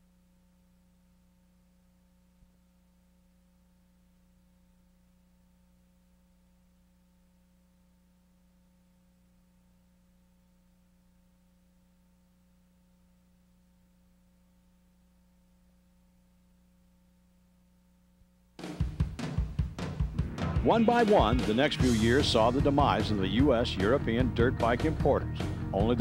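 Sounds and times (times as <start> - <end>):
faint electrical hum and hiss: 0.0 - 26.0.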